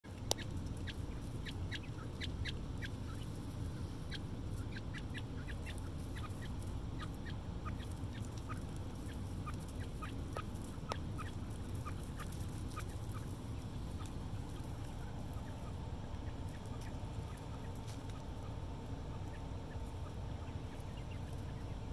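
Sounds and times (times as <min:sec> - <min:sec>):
low hum: 0:00.0 - 0:21.9
young quail peeping: 0:00.0 - 0:21.9.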